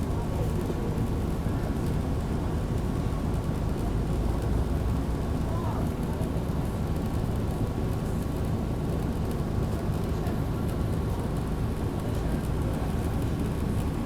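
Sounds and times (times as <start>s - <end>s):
bus engine low rumble: 0.0s - 14.0s.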